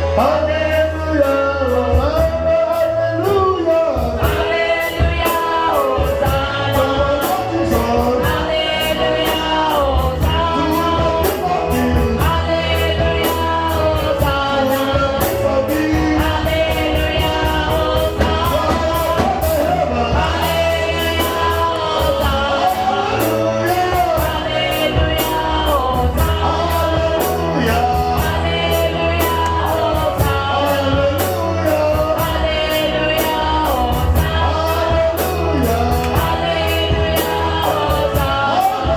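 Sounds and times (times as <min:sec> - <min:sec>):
bass and drums beat: 0:00.0 - 0:38.9
people singing worship music: 0:00.0 - 0:38.9.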